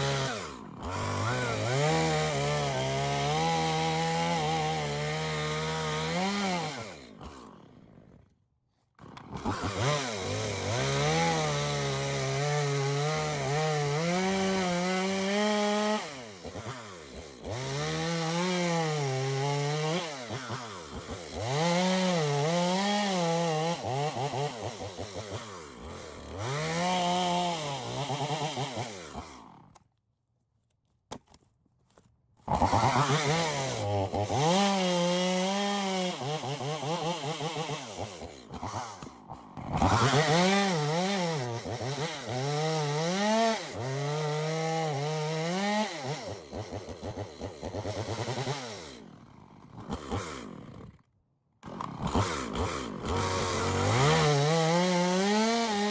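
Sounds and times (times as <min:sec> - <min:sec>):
chainsaw cutting logs: 0:00.0 - 0:30.1, 0:31.1 - 0:55.9.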